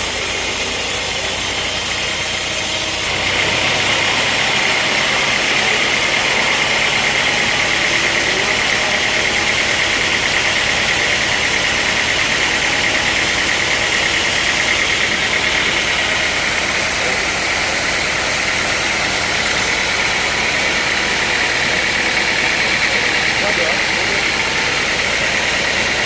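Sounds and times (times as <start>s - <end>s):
engine-driven saw running: 0.0s - 26.0s.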